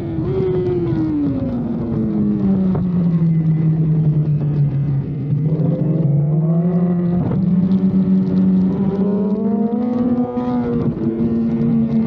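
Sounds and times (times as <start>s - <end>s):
motorcycle engine running hard: 0.0s - 12.0s.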